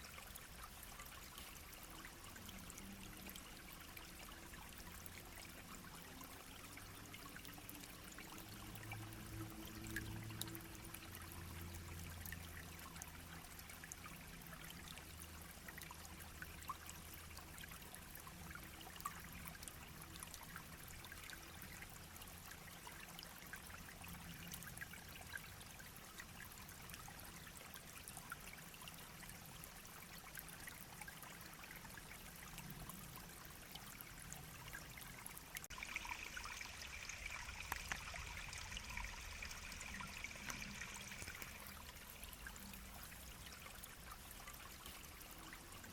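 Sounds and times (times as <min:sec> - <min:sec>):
shallow stream babbling: 0:00.0 - 0:45.9.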